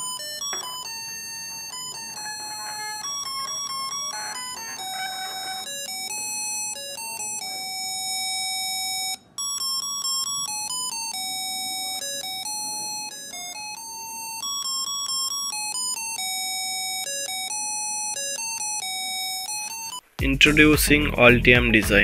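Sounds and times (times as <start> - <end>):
electronic beeping tune: 0.0 - 20.0.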